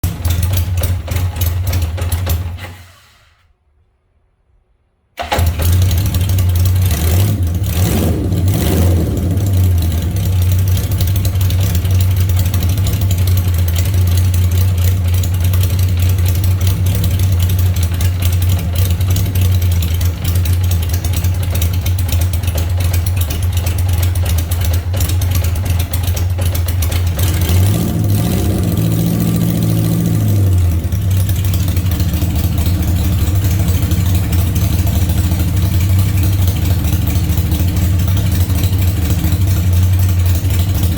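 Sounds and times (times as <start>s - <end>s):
engine idling and revving: 0.0s - 2.6s, 5.2s - 40.9s.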